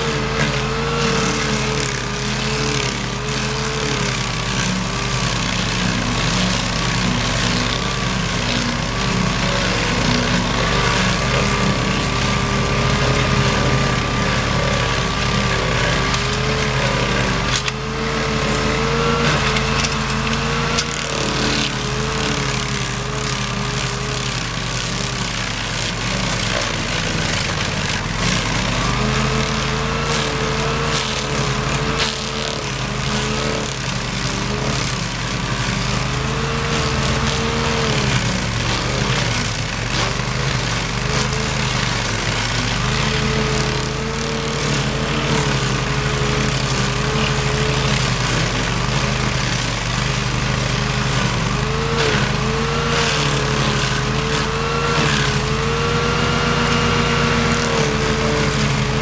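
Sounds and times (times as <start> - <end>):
cutting wheel grinding wood: 0.0 - 59.0
stump grinder engine running: 0.0 - 59.0.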